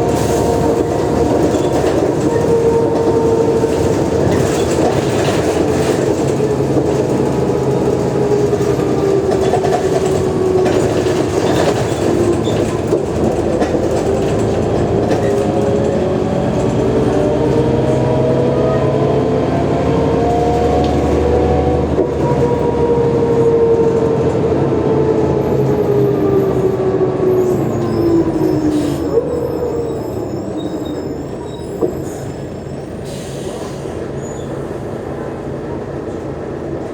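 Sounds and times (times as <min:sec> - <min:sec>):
bus engine droning: 0:00.0 - 0:36.9.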